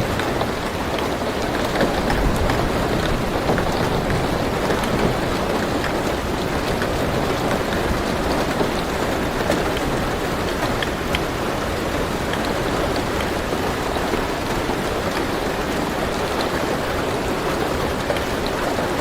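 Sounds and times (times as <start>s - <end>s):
rain on a car roof: 0.0s - 19.0s.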